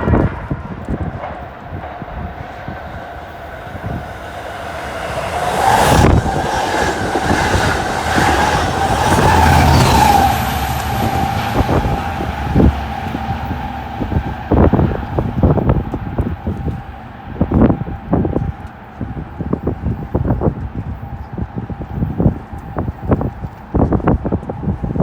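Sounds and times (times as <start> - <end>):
train wheels clicking over rail joints: 0.0 - 25.0
high whine: 1.4 - 23.2.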